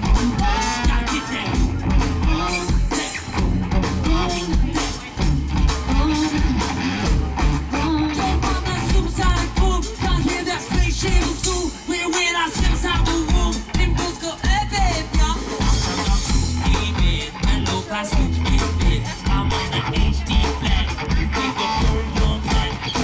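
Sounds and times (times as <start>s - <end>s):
live band playing dance music: 0.0s - 23.0s
person singing: 0.0s - 23.0s.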